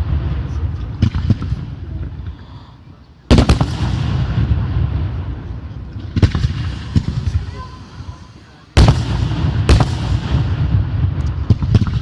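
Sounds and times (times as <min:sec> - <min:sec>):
fireworks bang: 0:00.0 - 0:02.2, 0:03.3 - 0:12.0.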